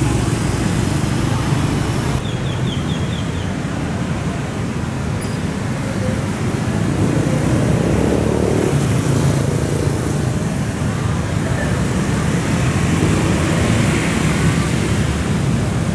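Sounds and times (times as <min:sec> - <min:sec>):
road traffic rumble: 0:00.0 - 0:15.9.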